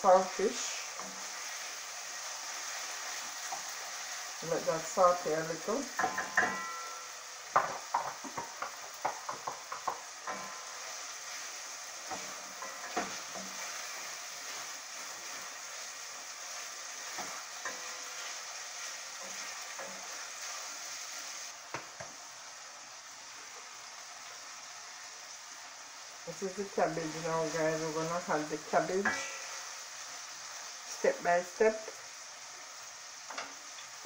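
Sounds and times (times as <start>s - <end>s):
fish sizzling in a pot: 0.0s - 34.0s.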